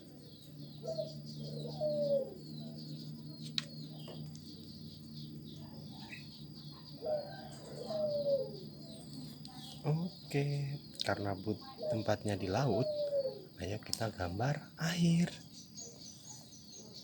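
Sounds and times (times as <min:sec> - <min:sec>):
dove cooing: 0:00.0 - 0:17.0
small birds chirping: 0:00.0 - 0:17.0.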